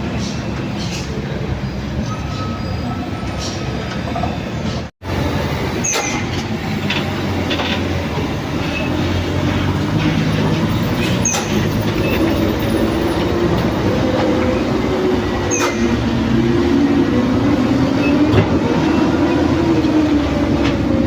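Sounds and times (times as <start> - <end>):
heavy engine labouring: 0.0 - 21.0.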